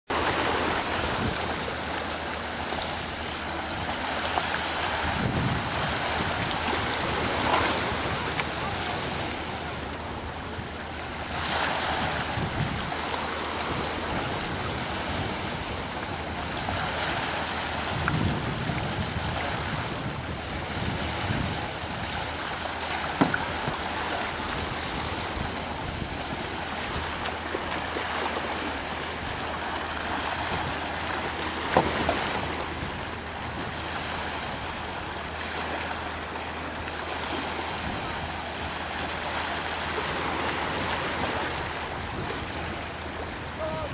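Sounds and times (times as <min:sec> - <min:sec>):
small waves lapping at shore: 0:00.1 - 0:43.9.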